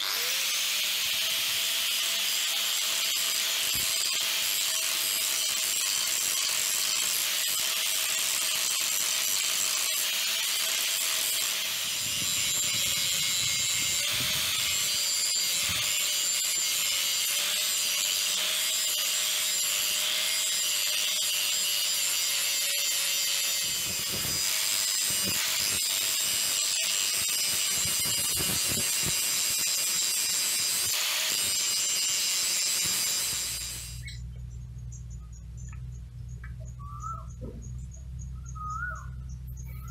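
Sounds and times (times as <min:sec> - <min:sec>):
angle grinder grinding steel: 0:00.0 - 0:34.3.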